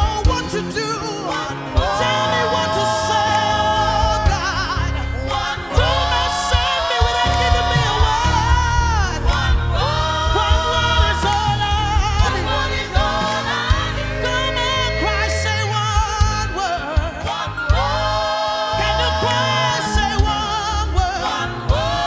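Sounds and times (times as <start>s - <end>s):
band with bass and drums: 0.0s - 22.0s
gospel singers holding notes: 0.0s - 22.0s.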